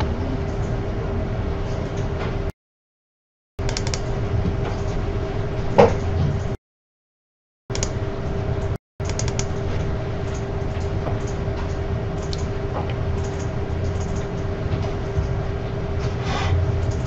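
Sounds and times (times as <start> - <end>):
steady hum with tones: 0.0 - 2.5, 3.6 - 6.6, 7.7 - 17.0.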